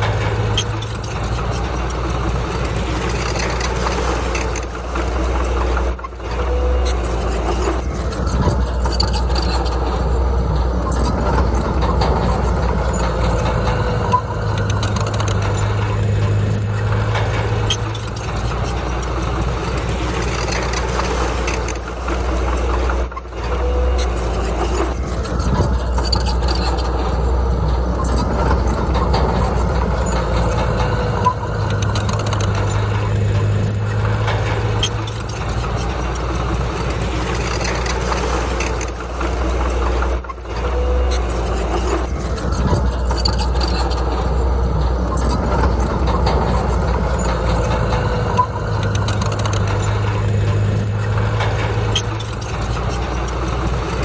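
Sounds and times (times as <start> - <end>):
heavy diesel machine running: 0.0 - 54.0.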